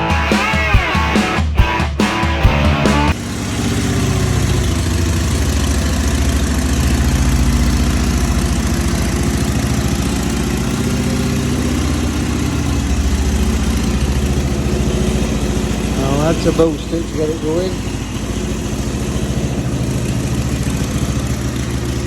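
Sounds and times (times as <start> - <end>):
motorcycle engine idling: 2.5 - 22.0.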